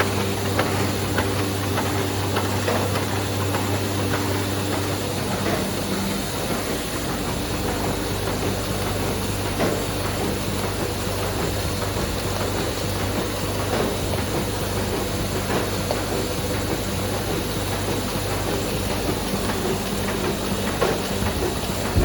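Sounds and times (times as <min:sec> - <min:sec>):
printing press running: 0:00.0 - 0:22.0.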